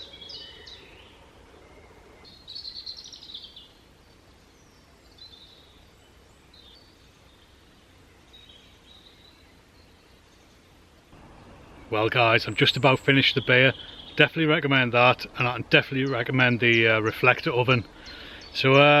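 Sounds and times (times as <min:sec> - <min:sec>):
faint outdoor background: 0:00.0 - 0:19.0
songbirds singing: 0:00.0 - 0:19.0.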